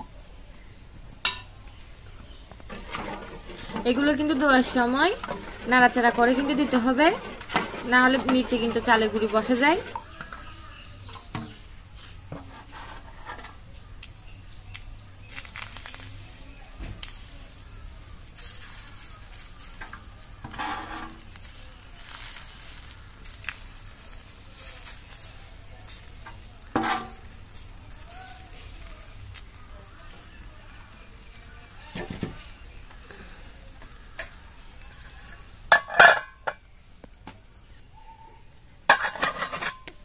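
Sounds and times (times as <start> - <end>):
batter sizzling in hot pan: 0.0 - 38.0.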